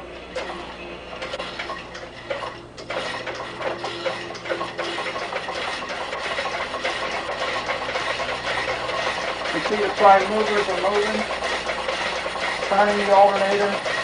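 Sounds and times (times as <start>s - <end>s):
engine ticking clatter: 1.3s - 14.0s.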